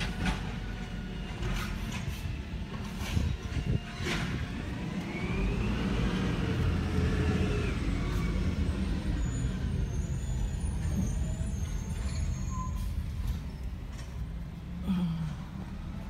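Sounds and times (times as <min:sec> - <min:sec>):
garbage truck drivetrain whine: 0:00.0 - 0:16.0.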